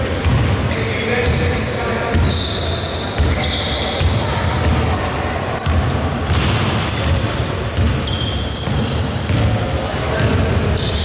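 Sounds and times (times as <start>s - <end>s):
sneakers squeaking: 0.0s - 11.0s
basketball bouncing on court: 0.1s - 2.6s, 3.2s - 11.0s.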